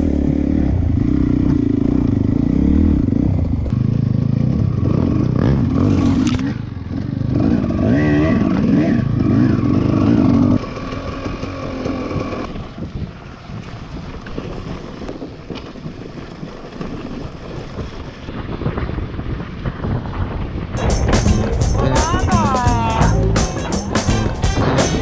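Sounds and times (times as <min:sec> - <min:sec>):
dirt bike engine running: 0:00.0 - 0:18.4, 0:20.7 - 0:25.0.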